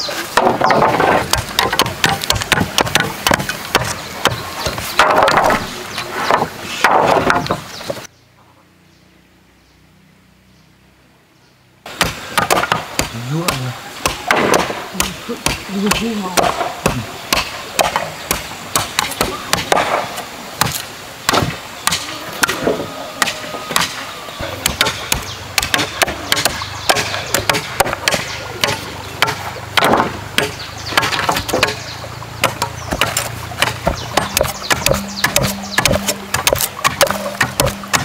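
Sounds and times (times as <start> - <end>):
machete chopping wood: 0.3 - 5.7, 6.3 - 7.6, 11.9 - 24.0, 24.6 - 31.8, 32.4 - 38.0.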